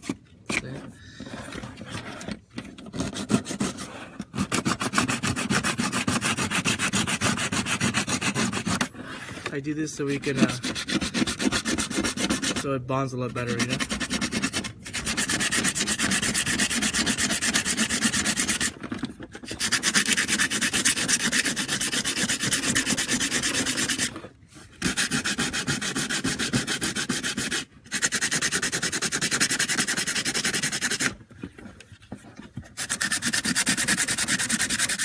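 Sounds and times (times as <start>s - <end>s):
sandpaper scrubbing: 2.9s - 31.2s, 32.7s - 35.0s.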